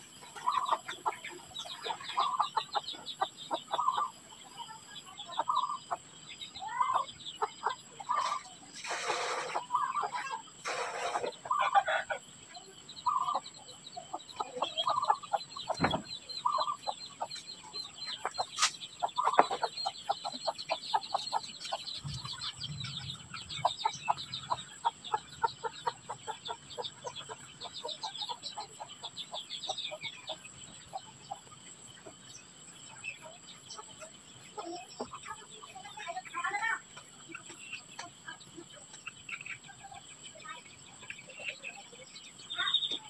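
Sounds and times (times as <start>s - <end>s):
birds clucking and chirping: 0.0s - 43.0s.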